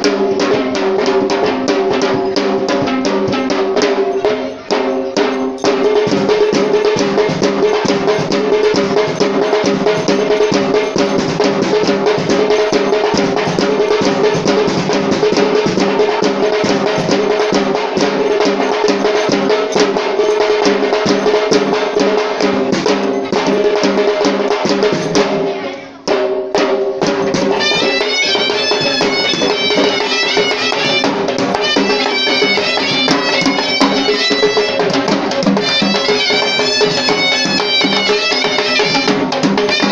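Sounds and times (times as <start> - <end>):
drums played in fast strokes: 0.0 - 39.9
high pipe melody: 4.0 - 25.6, 27.1 - 39.9.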